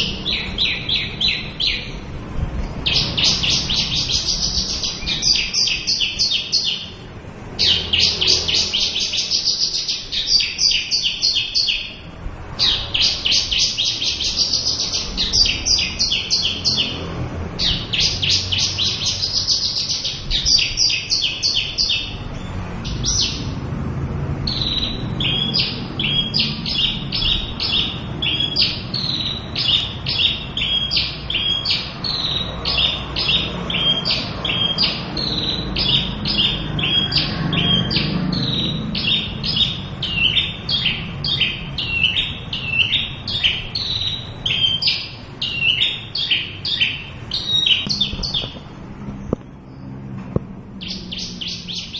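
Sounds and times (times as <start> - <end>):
bird singing trilled notes: 0.0 - 51.9.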